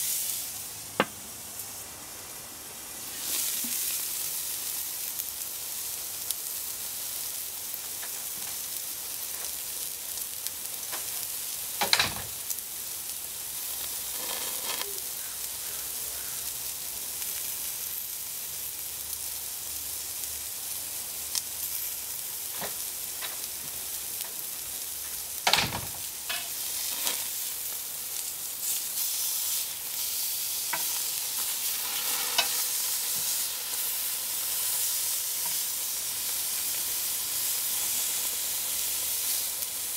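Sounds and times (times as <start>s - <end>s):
steaks sizzling on a grill: 0.0s - 39.9s.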